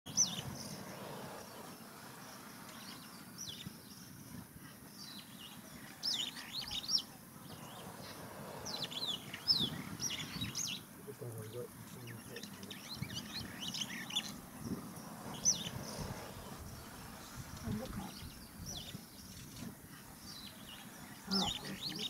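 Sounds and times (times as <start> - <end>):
small birds chirping: 0.1 - 22.0.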